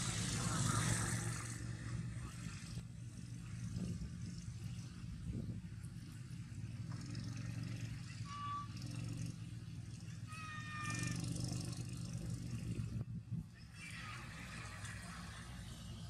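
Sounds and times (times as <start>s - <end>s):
motorbike engines humming: 0.0s - 16.0s.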